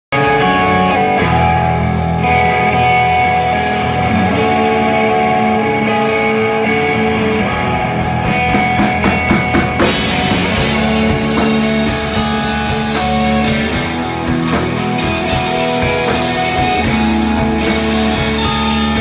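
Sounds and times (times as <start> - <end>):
electric guitars playing chords: 0.1 - 19.0.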